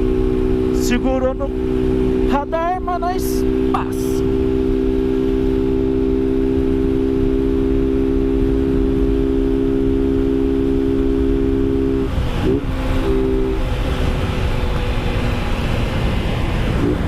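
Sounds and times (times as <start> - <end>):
motorcycle engine cruising: 0.0 - 17.0
wind rumble on microphone: 0.0 - 17.0.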